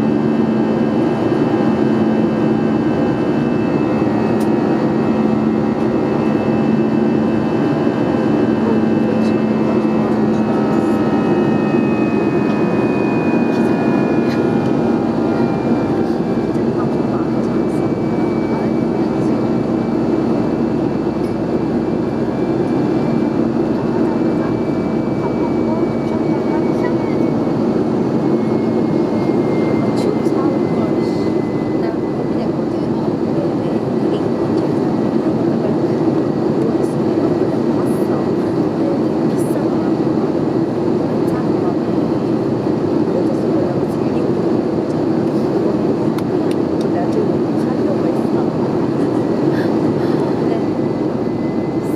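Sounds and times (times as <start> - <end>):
faint steady whine: 0.0 - 51.9
jet engine cabin hum: 0.0 - 51.9.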